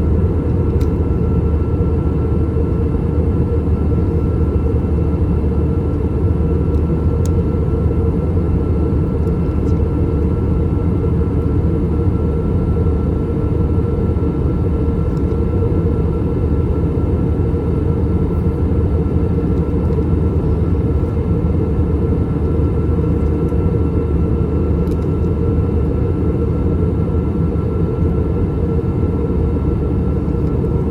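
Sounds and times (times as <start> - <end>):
airplane cabin roar: 0.0 - 30.9
faint steady whine: 0.0 - 30.9.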